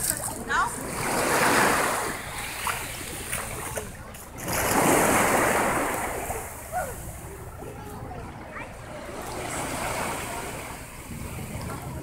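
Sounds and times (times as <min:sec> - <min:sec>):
small waves washing on shore: 0:00.0 - 0:12.0.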